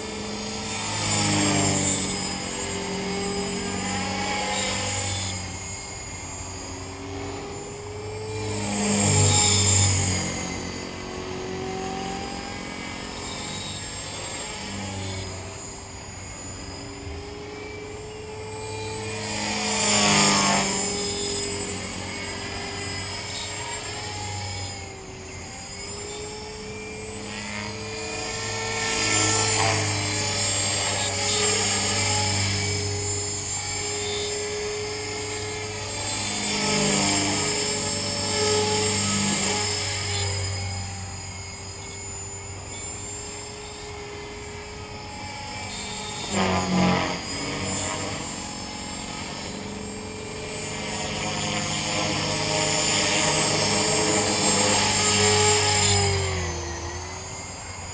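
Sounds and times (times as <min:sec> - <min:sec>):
bearing squeal: 0:00.0 - 0:57.9
rc helicopter whine: 0:00.0 - 0:57.9.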